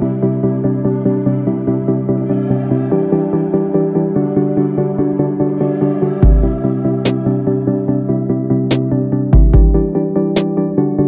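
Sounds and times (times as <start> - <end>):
ambient electronic music: 0.0 - 11.0.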